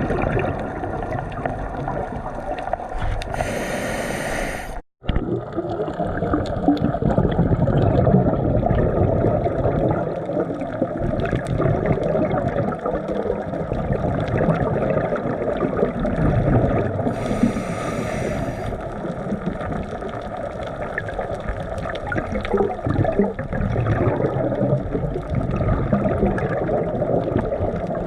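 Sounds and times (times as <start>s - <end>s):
water splashing and sloshing: 0.0s - 3.8s, 5.0s - 28.0s.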